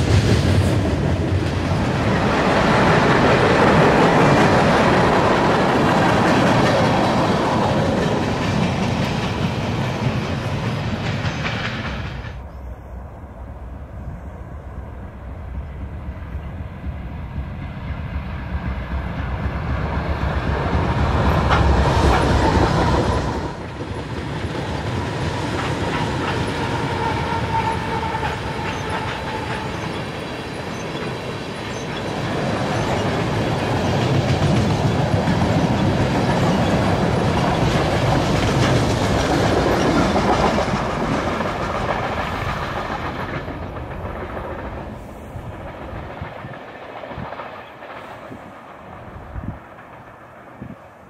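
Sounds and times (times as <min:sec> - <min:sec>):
train wheels rumbling over rail joints: 0:00.0 - 0:12.6, 0:14.1 - 0:51.0.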